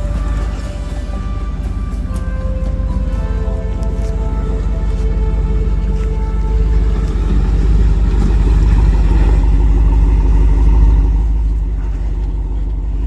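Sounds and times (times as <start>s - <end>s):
vehicle engine rumbling under load: 0.0s - 13.0s.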